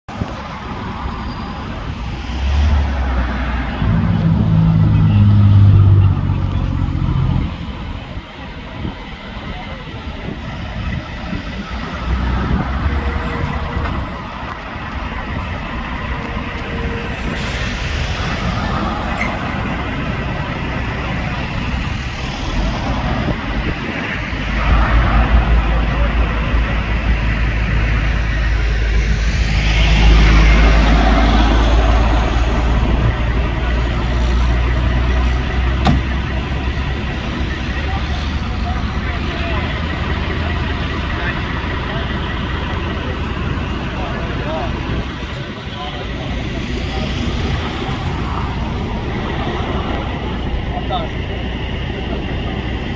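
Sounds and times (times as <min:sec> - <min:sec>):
diesel truck engine rumbling: 0:00.1 - 0:52.9.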